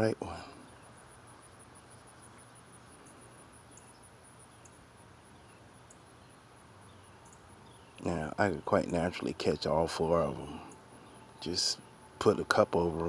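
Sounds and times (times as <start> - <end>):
background hiss: 0.0 - 13.0
pulsing insect chirp: 0.0 - 13.0.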